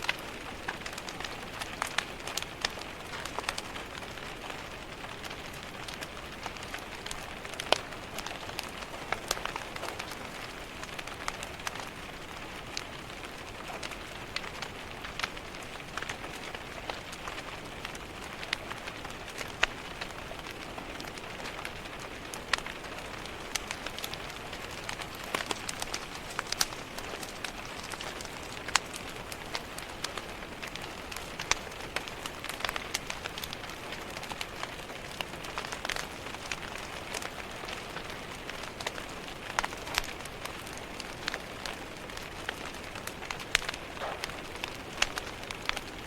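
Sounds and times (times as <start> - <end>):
rain pattering on a window: 0.0 - 46.0
wood fire crackling and popping: 0.0 - 46.0.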